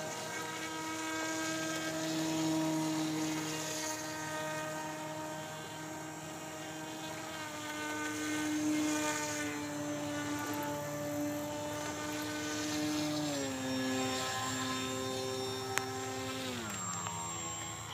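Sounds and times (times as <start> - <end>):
model airboat motor whine: 0.0 - 17.9.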